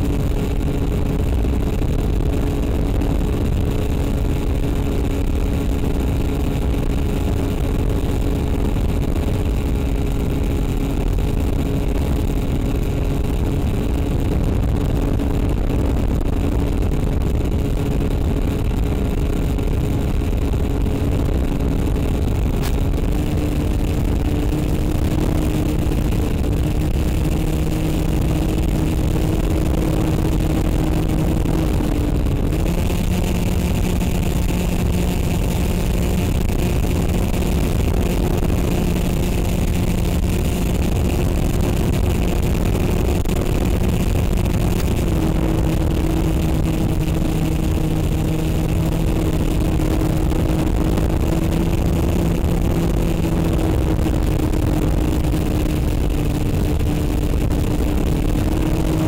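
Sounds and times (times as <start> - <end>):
model aircraft motor whine: 0.0 - 59.0
wind rushing across microphone: 0.0 - 59.0.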